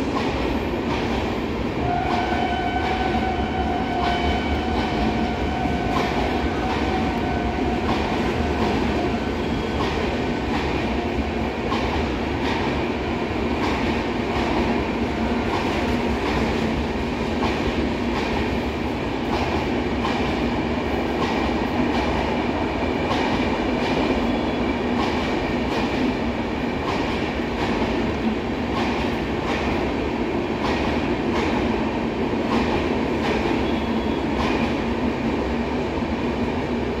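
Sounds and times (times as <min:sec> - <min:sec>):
train passing rumble: 0:00.0 - 0:37.0.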